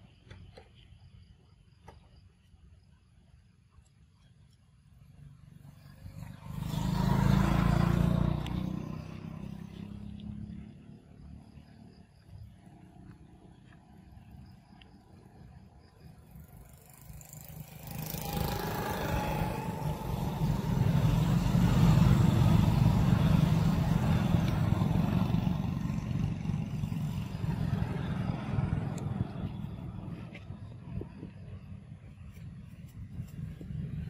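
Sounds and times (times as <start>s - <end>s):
motor vehicle passing: 5.2s - 14.5s, 16.0s - 34.0s.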